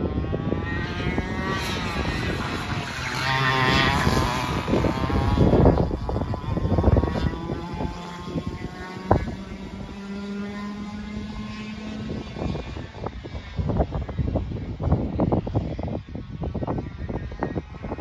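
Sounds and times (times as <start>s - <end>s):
kart engine passing by: 0.0s - 14.6s
wind noise on microphone: 0.0s - 18.0s.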